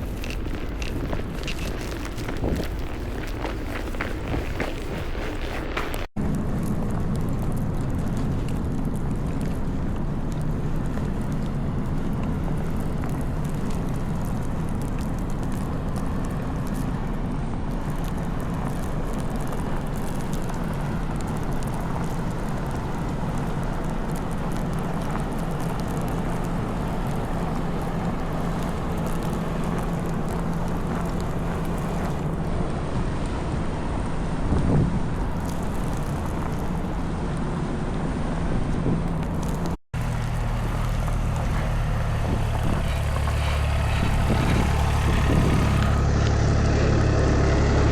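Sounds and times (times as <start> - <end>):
city traffic drone: 0.0 - 47.9
wind buffeting microphone: 0.0 - 47.9.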